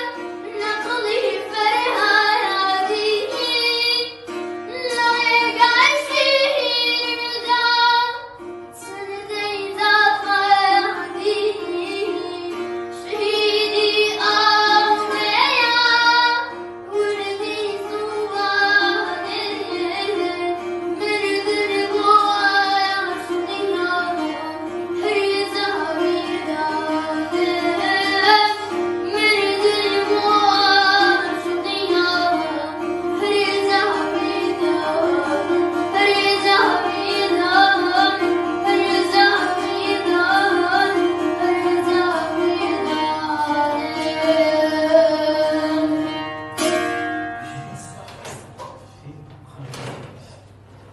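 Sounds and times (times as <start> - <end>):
boy singing ornamented melody: 0.0 - 46.8
plucked lute drone: 0.0 - 50.0.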